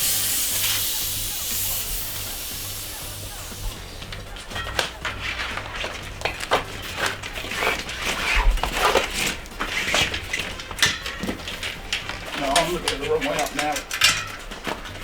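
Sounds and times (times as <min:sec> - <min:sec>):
clicks and scuffs of bicycle tyres: 0:00.0 - 0:15.0
rubbery rustles of inner tubes: 0:00.0 - 0:15.0.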